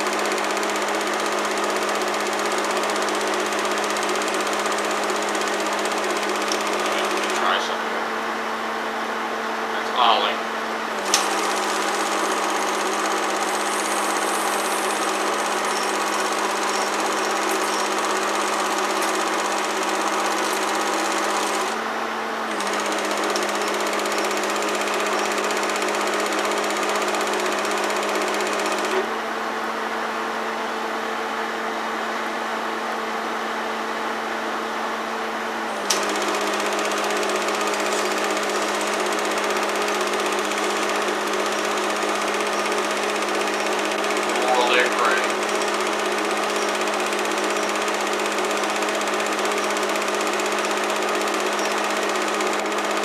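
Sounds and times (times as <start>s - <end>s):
film projector whirring and clattering: 0.0s - 53.0s.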